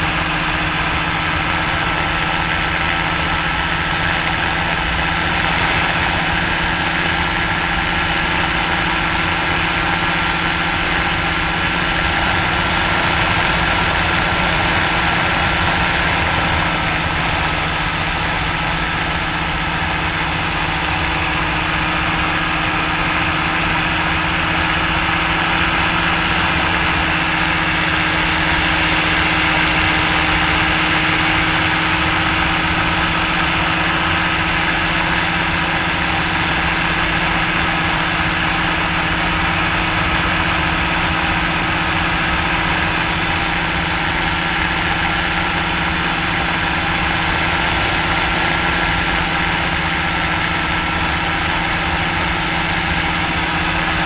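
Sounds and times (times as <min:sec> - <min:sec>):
ultralight engine drone: 0:00.0 - 0:54.0.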